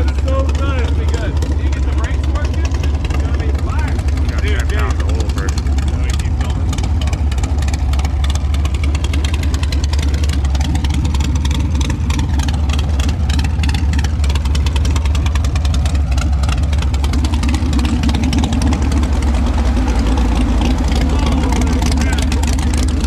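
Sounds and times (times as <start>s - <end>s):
engine idling deep exhaust: 0.0s - 23.0s.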